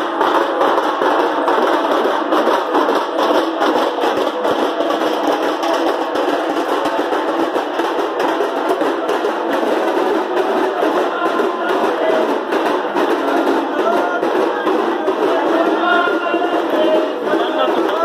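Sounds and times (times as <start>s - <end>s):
drums and percussion playing: 0.0s - 18.0s.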